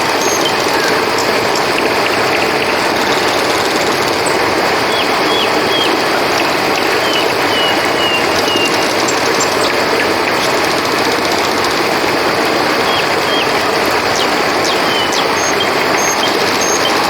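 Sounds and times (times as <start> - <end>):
flowing river water: 0.0 - 17.0
insect chirring: 0.0 - 17.0.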